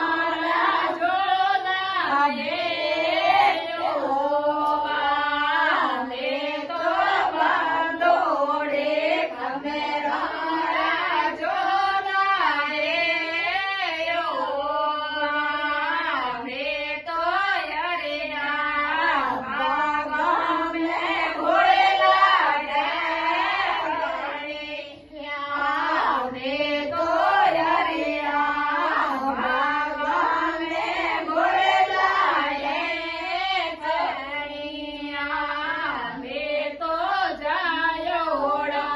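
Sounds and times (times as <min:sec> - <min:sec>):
woman singing devotional song: 0:00.0 - 0:38.9.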